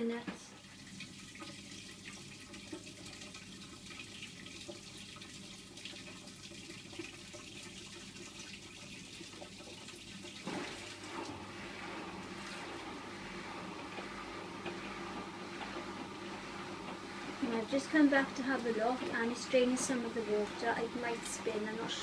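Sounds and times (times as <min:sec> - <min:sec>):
washing machine hum: 0:00.0 - 0:22.0
water swishing in washing machine: 0:00.0 - 0:22.0.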